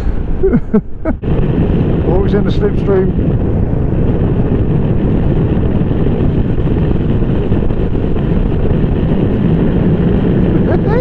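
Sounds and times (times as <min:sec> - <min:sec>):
motorcycle engine drone: 0:00.0 - 0:11.0
wind rushing over microphone: 0:00.0 - 0:11.0.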